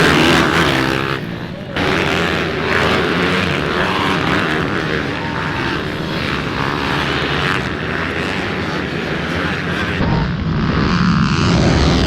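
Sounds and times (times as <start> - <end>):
small motorcycle engines buzzing: 0.0 - 12.0.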